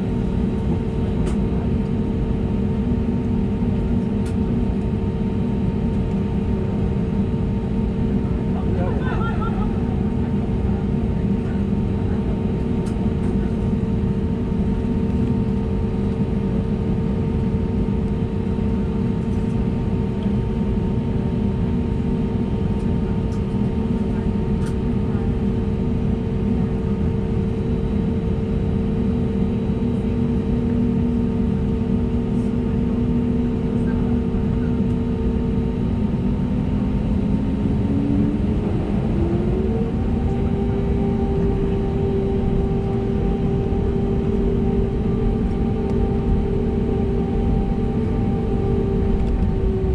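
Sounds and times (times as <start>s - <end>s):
jet engines humming: 0.0s - 49.9s.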